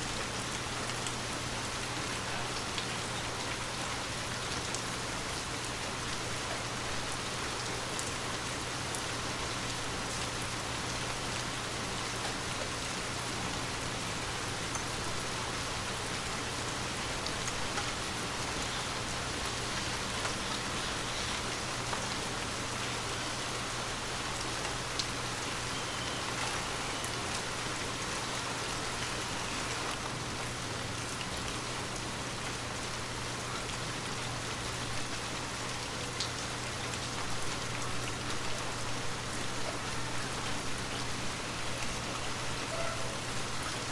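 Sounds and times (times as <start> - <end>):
rain on a window: 0.0 - 43.9.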